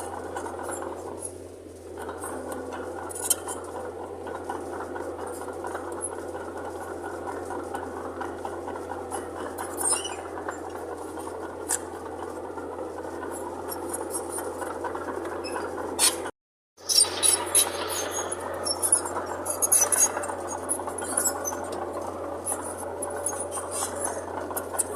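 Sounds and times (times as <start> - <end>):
bulldozer diesel engine running: 0.0 - 24.9.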